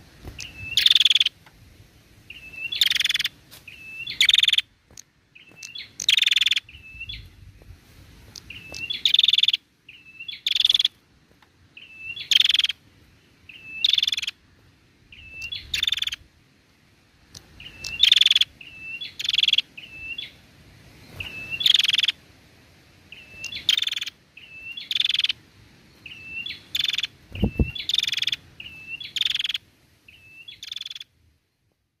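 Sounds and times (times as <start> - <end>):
bird chirping and buzzing: 0.0 - 1.4, 2.2 - 7.6, 8.2 - 14.4, 15.0 - 16.3, 17.2 - 22.2, 23.1 - 31.2.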